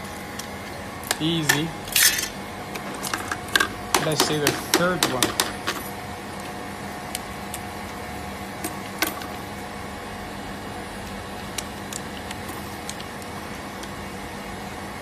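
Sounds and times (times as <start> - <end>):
refrigeration compressor hum: 0.0 - 15.0.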